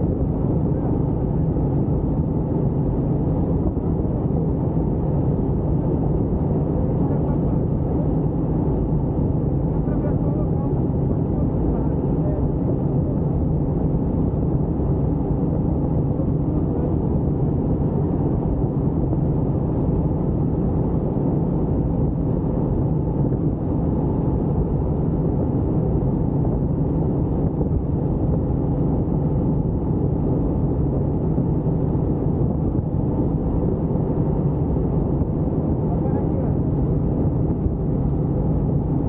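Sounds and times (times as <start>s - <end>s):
helicopter rotor and engine drone: 0.0s - 39.0s.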